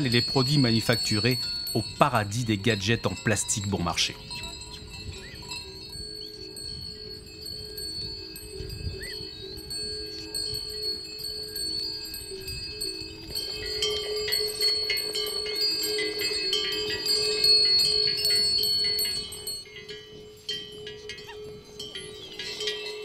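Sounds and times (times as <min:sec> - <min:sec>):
animal bells jingling: 0:00.0 - 0:23.0.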